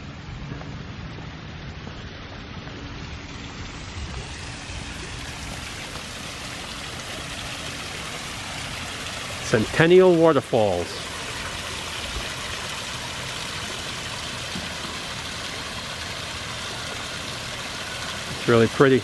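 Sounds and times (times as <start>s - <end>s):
water splashing down rocks: 1.1s - 19.0s.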